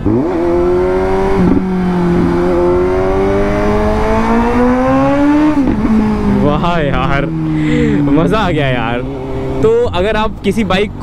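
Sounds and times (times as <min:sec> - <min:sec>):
motorcycle engine accelerating hard: 0:00.0 - 0:10.4.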